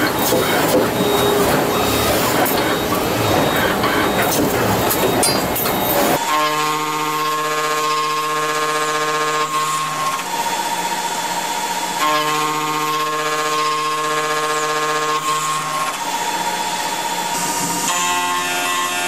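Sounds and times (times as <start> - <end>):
machine motor whine: 0.0 - 19.0.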